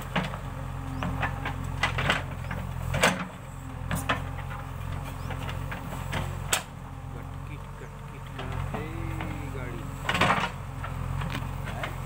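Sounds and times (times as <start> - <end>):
diesel engine running: 0.0 - 12.0
digger bucket knocking and scraping: 0.0 - 12.0.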